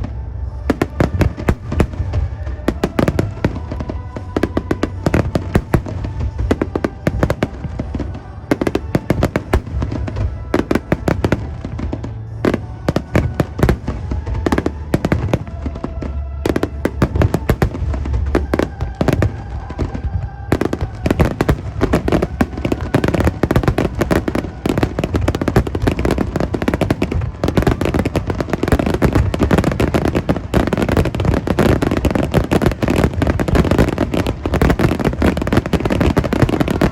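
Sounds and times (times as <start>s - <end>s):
fireworks barrage: 0.0s - 36.9s
music playing: 0.0s - 36.9s.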